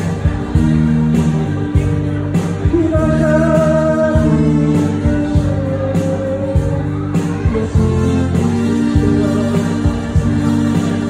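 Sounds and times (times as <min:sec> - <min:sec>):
live band music: 0:00.0 - 0:11.0
person singing: 0:01.8 - 0:11.0.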